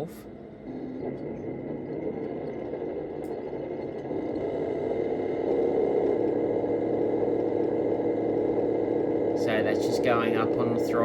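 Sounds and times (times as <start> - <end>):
simulated tank engine revving: 0.6 - 11.0.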